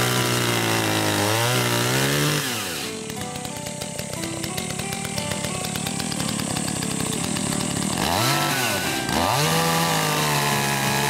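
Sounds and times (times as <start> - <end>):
chainsaw revving and cutting: 0.0 - 11.0.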